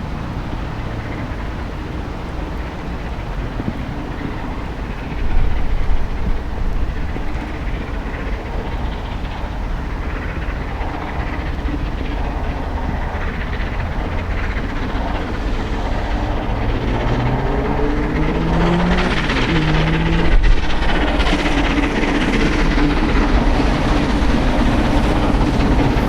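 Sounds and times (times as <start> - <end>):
steam train passing at speed: 0.0 - 26.0
wheels clattering on rails: 0.0 - 26.0.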